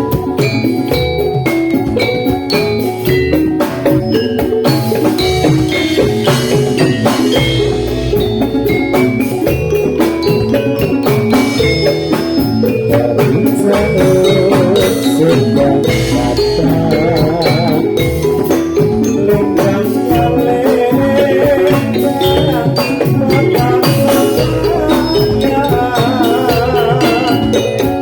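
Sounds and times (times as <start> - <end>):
hand drum strokes: 0.0 - 28.0
metallophones ringing: 0.0 - 28.0.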